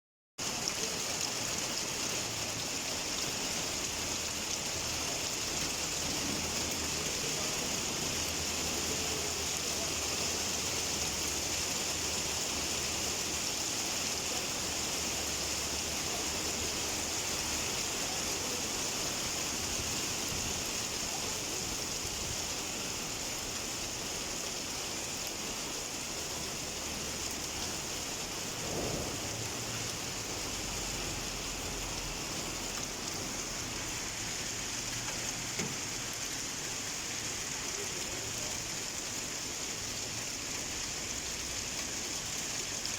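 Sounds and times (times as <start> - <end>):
rain falling steadily: 0.4 - 42.9.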